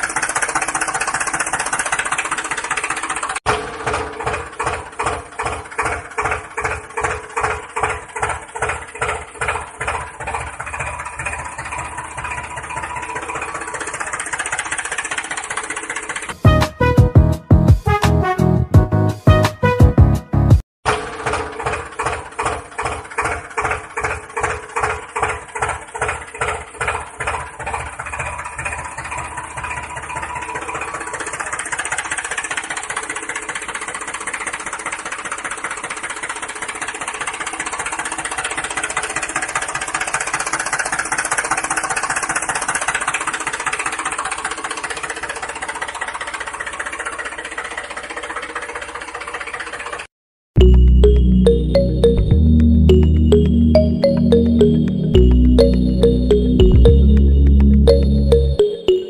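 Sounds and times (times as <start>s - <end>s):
tractor engine chugging: 0.0s - 17.0s, 20.9s - 58.5s.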